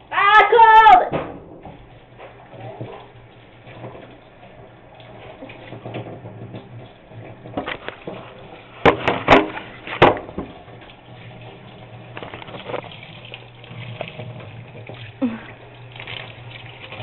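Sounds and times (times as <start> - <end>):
bathtub tap running: 0.0 - 17.0.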